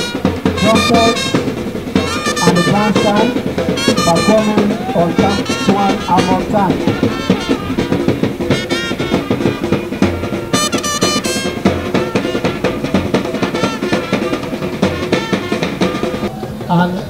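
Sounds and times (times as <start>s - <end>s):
brass band playing: 0.0s - 16.3s
trumpet lines: 0.0s - 16.4s
busy drumbeat: 0.0s - 16.7s.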